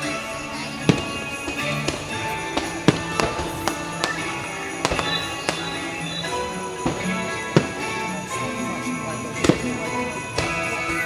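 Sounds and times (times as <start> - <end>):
fireworks bangs: 0.0 - 11.0
music playing: 0.0 - 11.0.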